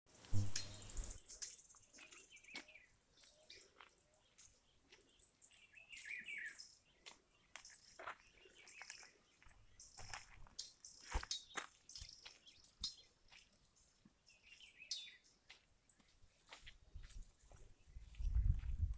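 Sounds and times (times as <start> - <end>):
small birds chirping: 0.2 - 18.9.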